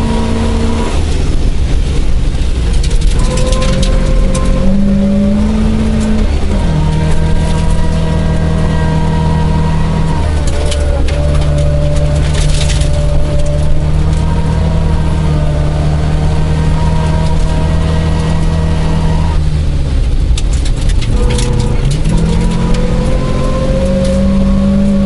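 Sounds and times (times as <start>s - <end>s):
car engine running hard: 0.0s - 25.0s
gravel rattling against car underside: 0.9s - 25.0s.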